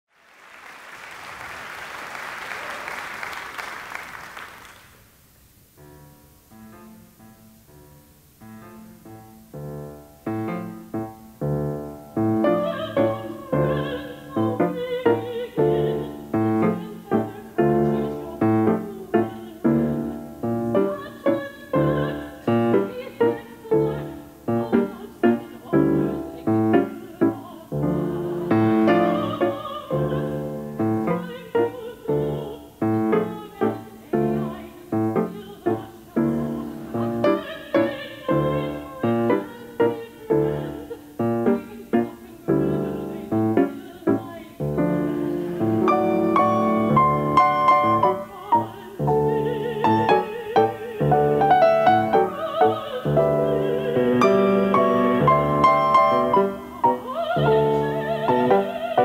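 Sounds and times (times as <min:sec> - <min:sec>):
grand piano chords: 0:05.7 - 0:59.0
soprano singing operatically: 0:11.7 - 0:59.0.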